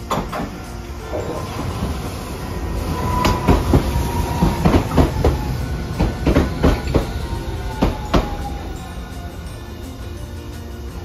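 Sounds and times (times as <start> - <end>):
tram wheels clacking over rail joints: 0.0 - 10.8
steady high whine: 0.0 - 11.0
tram running rumble: 0.0 - 11.0.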